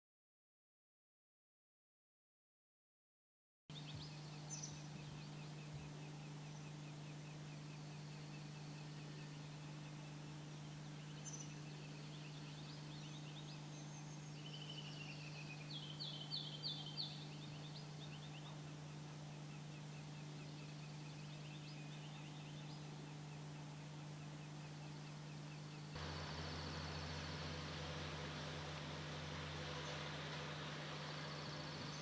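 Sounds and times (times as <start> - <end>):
small birds chirping: 3.7 - 32.0
steady low hum: 3.7 - 32.0.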